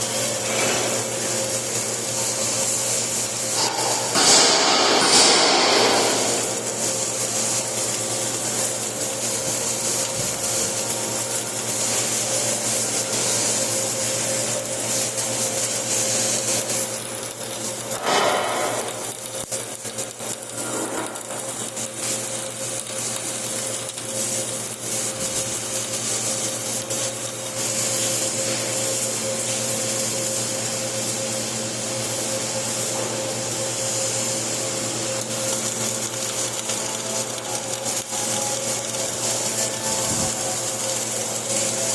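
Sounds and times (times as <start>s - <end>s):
welding arc crackling: 0.0s - 41.9s
welding machine hum: 0.0s - 41.9s.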